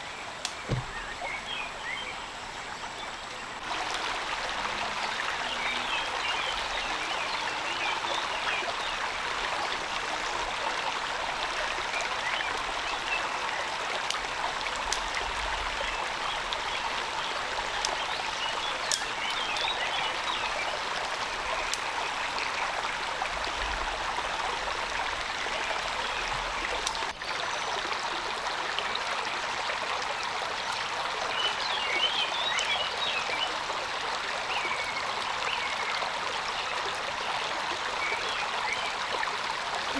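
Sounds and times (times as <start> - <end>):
rain falling: 0.0 - 27.2, 33.4 - 39.9.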